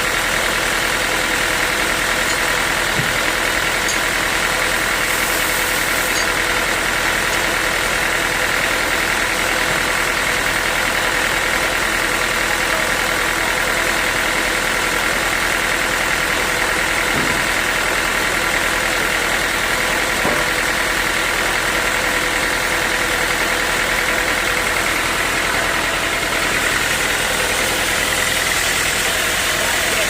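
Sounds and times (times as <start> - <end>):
sawmill saw whining: 0.0 - 30.0.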